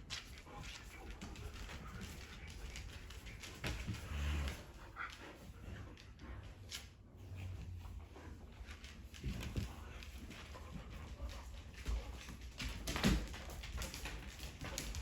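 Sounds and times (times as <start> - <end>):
dogs moving about: 0.0 - 15.0.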